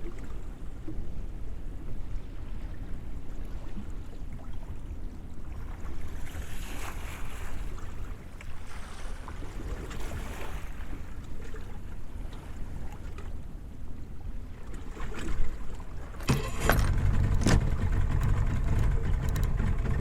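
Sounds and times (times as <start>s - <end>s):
water lapping against boat: 0.0s - 20.0s.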